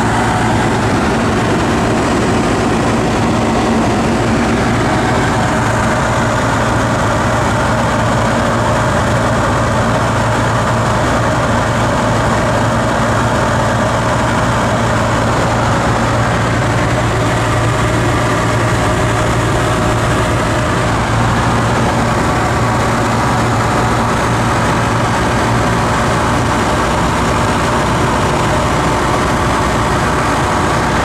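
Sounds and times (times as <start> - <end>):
airflow noise: 0.0 - 31.0
propeller aircraft engine droning: 0.0 - 31.0.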